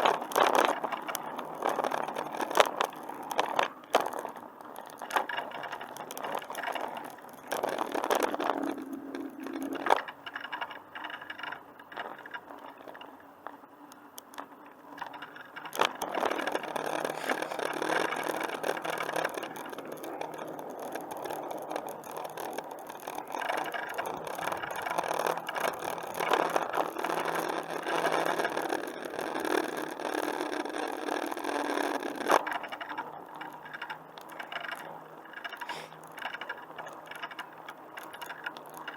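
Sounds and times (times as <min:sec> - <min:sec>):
bicycle tyre and drivetrain noise: 0:00.0 - 0:38.9.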